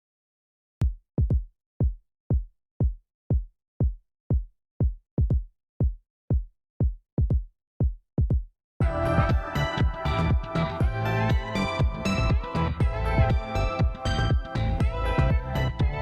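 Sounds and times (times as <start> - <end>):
drum machine kick drum: 0.8 - 16.0.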